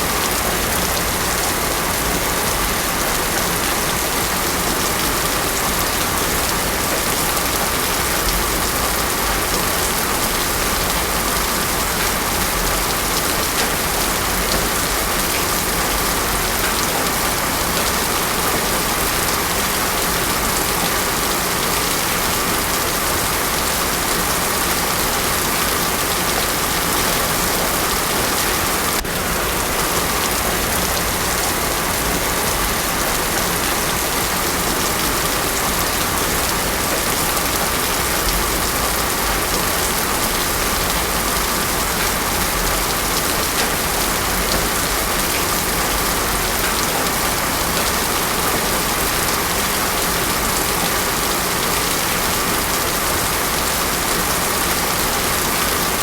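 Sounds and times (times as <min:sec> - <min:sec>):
heavy rain on a road: 0:00.0 - 0:56.0.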